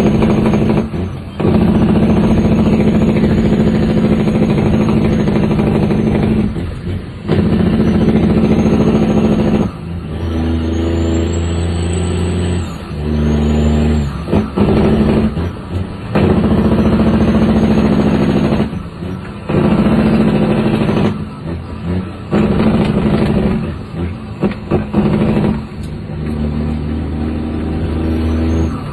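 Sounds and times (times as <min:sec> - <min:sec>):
truck diesel engine shifting gears: 0:00.0 - 0:28.9.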